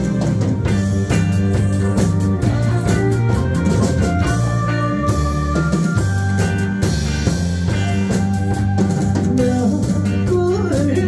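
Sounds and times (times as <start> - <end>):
live band playing upbeat song: 0.0 - 11.0.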